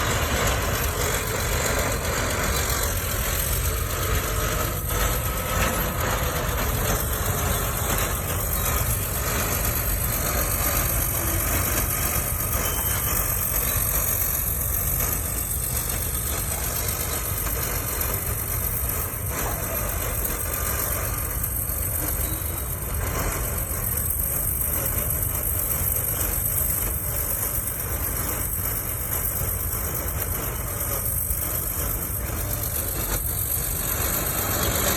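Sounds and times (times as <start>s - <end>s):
bulldozer diesel engine under load: 0.0s - 34.9s.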